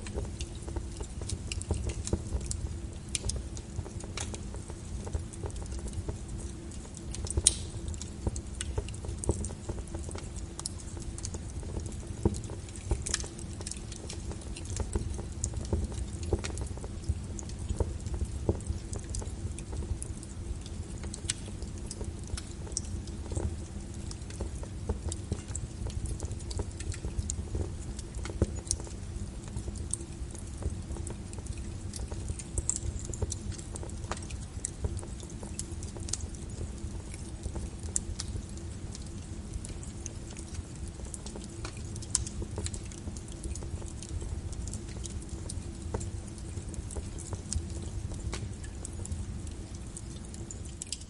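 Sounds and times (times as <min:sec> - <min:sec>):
low rumble of flames: 0:00.0 - 0:51.0
wood fire crackling and popping: 0:00.0 - 0:51.0.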